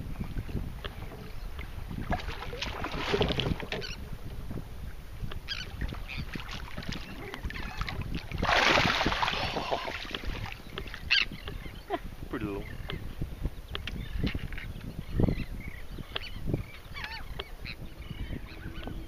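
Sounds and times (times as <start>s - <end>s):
choppy water against kayak hull: 0.0s - 19.0s
wind buffeting microphone: 0.0s - 19.0s.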